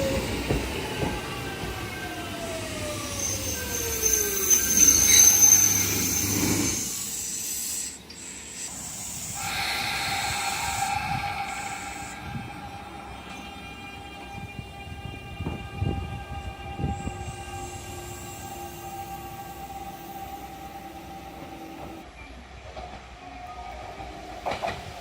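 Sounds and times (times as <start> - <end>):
steady high train hum: 0.0 - 25.0
train wheels squealing: 0.0 - 25.0
electric train motor whine: 1.8 - 22.0.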